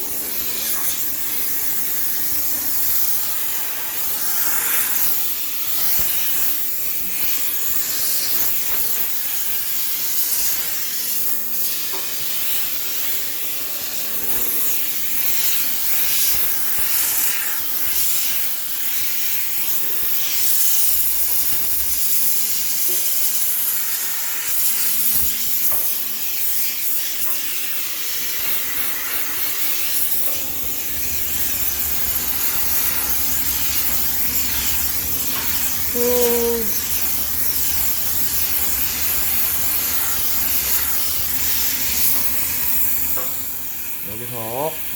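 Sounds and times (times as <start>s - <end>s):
steam cleaner hissing: 0.0s - 44.9s.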